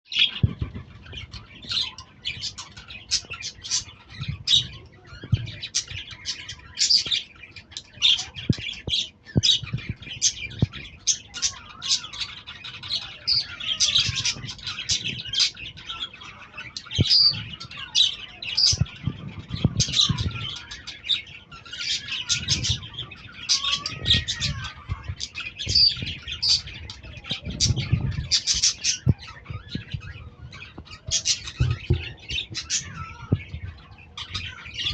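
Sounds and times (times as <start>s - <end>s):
parrots chattering and squawking: 0.1s - 34.9s.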